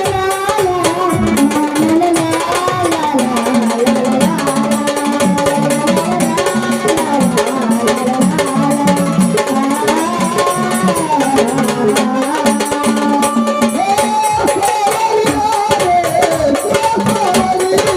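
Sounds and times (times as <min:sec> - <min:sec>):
drum and percussion: 0:00.0 - 0:17.9
person singing: 0:00.0 - 0:17.9.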